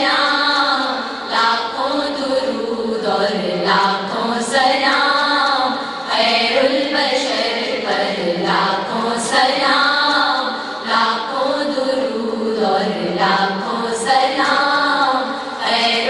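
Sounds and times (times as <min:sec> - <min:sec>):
group singing devotional song: 0:00.0 - 0:16.0.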